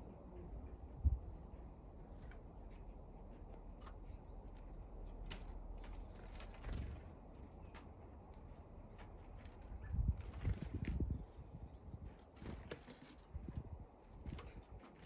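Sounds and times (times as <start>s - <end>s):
birds pecking at seed: 0.0s - 15.0s
faint outdoor rumble: 0.0s - 15.0s.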